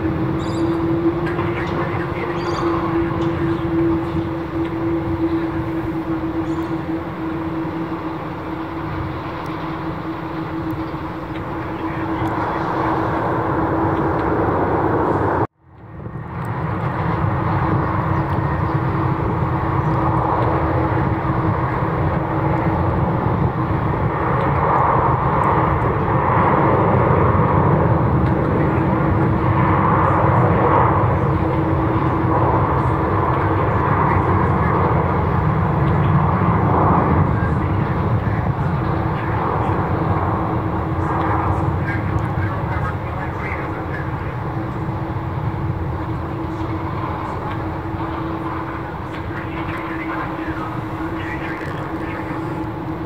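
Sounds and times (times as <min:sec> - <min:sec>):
jet engine rumble: 0:00.0 - 0:53.0.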